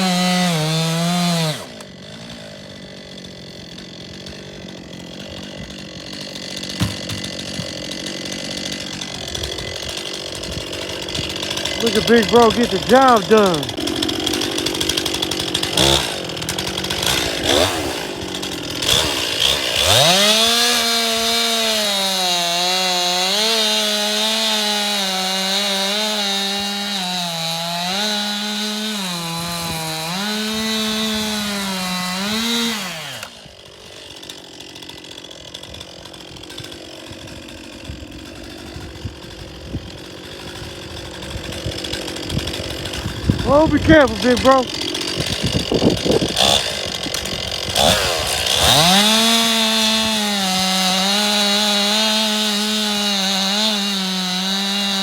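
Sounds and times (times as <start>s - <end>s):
chainsaw cutting: 0.0s - 55.0s.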